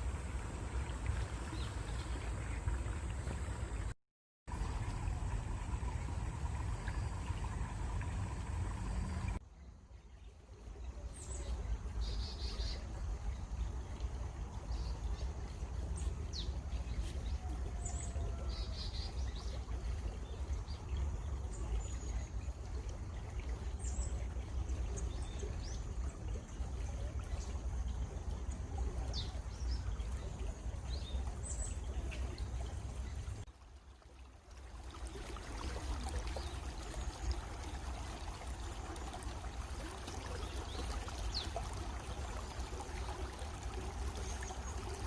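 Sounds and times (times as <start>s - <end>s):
stream of running water: 0.0s - 45.0s.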